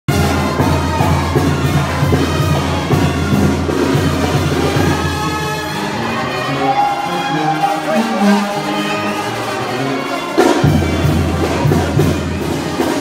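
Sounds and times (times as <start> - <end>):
live band playing dance music: 0.1 - 9.3, 10.2 - 13.0.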